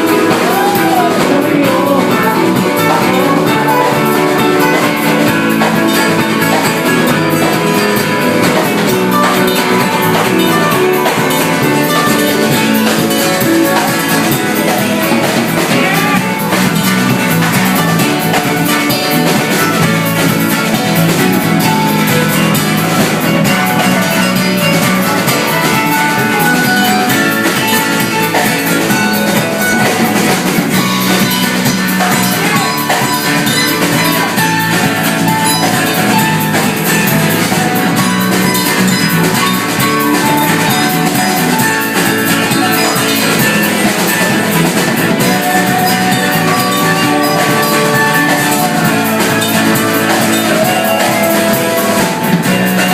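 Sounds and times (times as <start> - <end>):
live band playing: 0.0 - 52.9.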